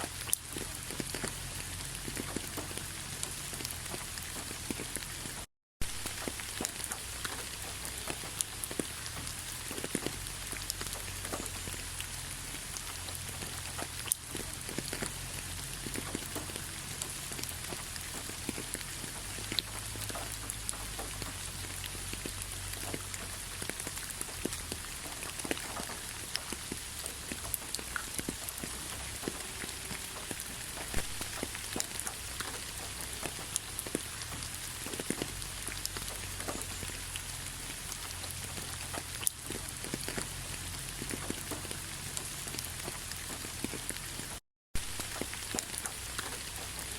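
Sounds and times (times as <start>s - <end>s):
light rain pattering: 0.0s - 46.9s.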